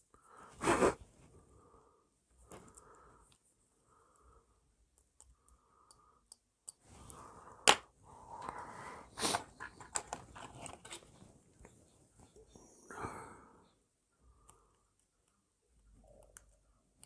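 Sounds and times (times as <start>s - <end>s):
soft breaths: 0.0s - 17.0s.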